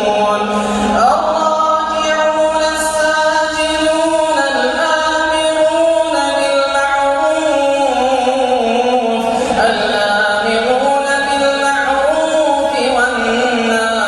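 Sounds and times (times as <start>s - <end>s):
person chanting recitation: 0.0s - 14.0s.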